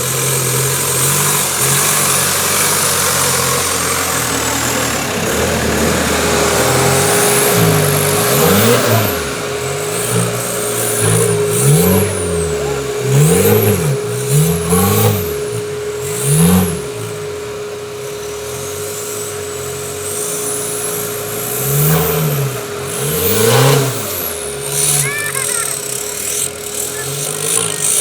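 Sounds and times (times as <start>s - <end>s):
engine revving in short blips: 0.0s - 28.0s
steady whine: 0.0s - 28.0s.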